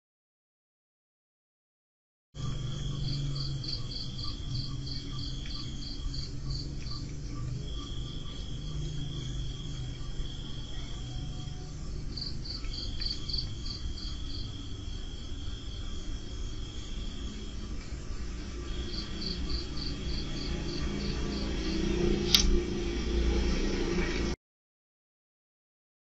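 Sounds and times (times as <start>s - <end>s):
crickets trilling: 2.4s - 23.6s
low rumble: 2.4s - 24.4s.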